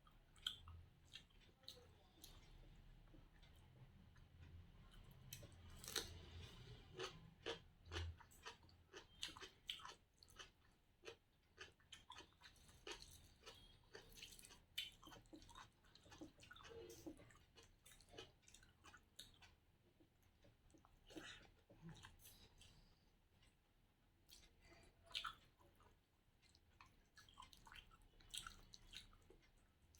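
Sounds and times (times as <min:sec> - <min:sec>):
person chewing food noisily: 0:00.0 - 0:29.9.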